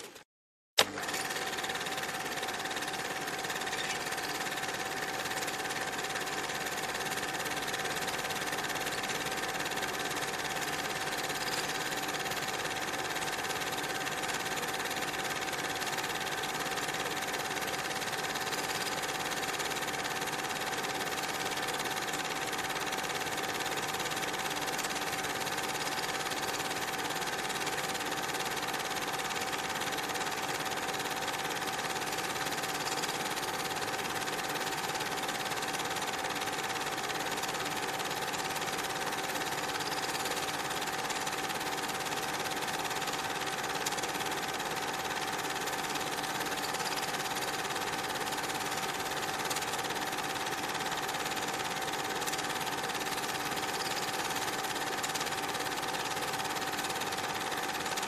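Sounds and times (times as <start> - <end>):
film projector whirring: 0.8 - 58.0.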